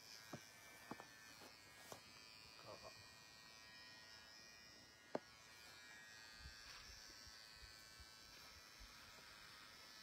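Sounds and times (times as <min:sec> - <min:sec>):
electric hair clippers buzzing: 0:00.0 - 0:10.0.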